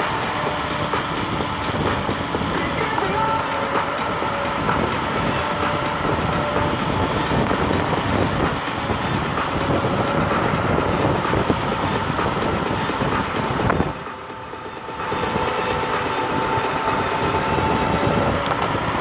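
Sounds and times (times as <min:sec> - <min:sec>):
electric scooter rumbling and rattling: 0:00.0 - 0:19.0
faint steady whine: 0:00.0 - 0:19.0.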